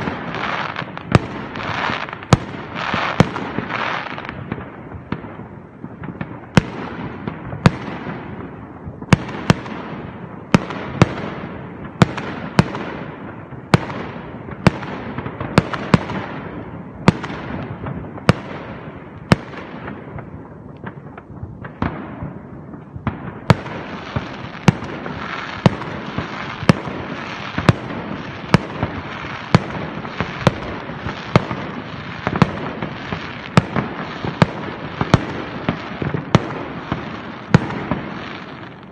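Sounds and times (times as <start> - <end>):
fireworks bangs with crackle: 0.0 - 38.9
steady crackling hiss: 0.0 - 38.9.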